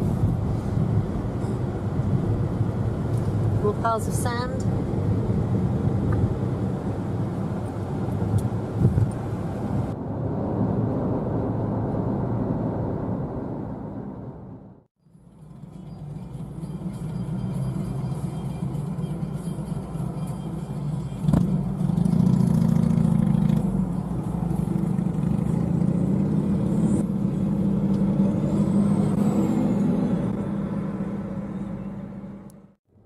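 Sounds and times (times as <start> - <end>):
car road and engine drone: 0.0 - 33.0.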